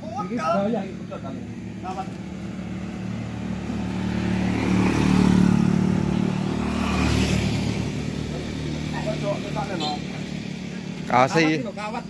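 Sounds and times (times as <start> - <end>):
motorcycle passing by: 1.1 - 11.5.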